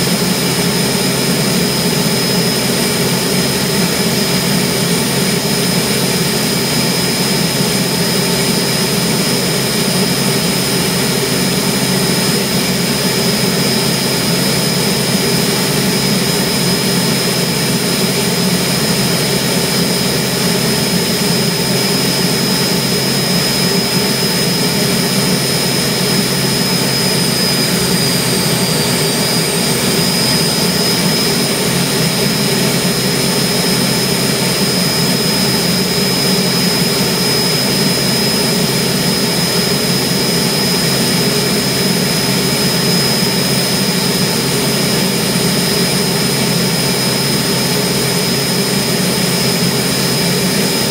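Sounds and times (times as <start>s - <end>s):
gas turbine engine running: 0.0s - 50.9s
high-pitched turbine whine: 0.0s - 50.9s.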